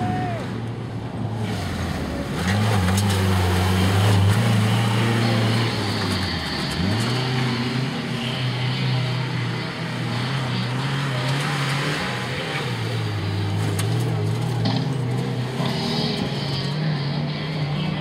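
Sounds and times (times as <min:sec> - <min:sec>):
pickup truck engine revving: 0:01.3 - 0:18.0.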